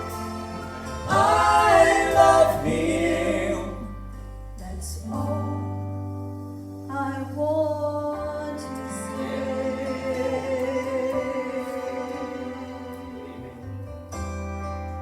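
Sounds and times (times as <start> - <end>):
gospel singing: 0.0 - 6.0, 6.9 - 14.0
instrumental accompaniment with deep bass: 0.0 - 15.0.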